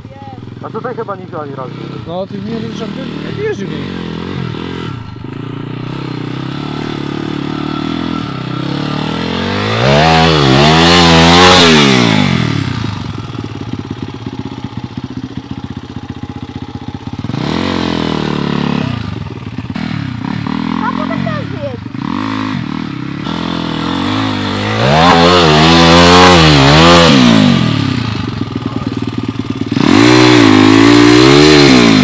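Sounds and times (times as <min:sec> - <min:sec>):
pit bike engine revving: 0:00.0 - 0:32.0.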